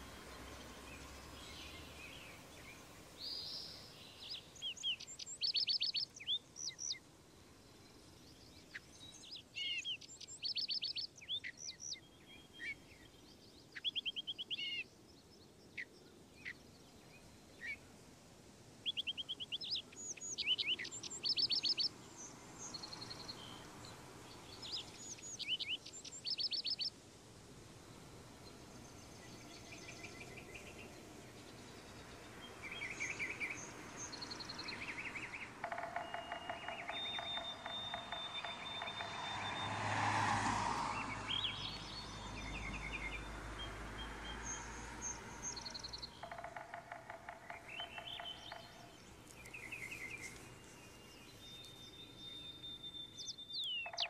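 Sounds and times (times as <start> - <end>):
faint outdoor background: 0.0 - 54.0
songbirds chirping and trilling: 0.0 - 54.0.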